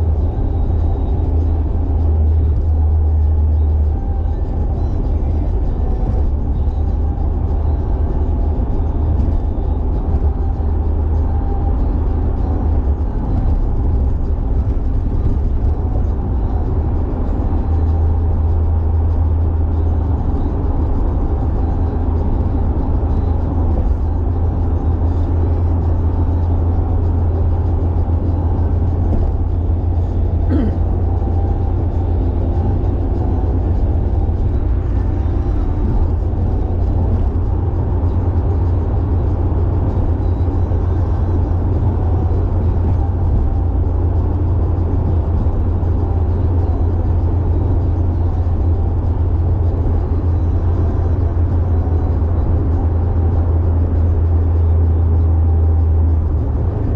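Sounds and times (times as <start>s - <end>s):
car engine and road noise drone: 0.0s - 56.9s.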